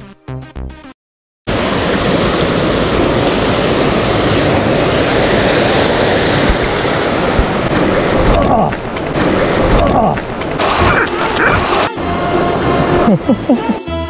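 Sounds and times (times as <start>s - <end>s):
stream cascading over rocks: 1.5s - 13.5s.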